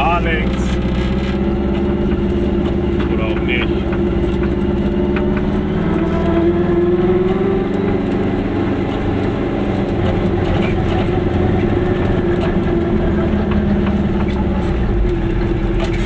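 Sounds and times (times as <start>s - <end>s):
small two-stroke car engine: 0.0s - 16.0s.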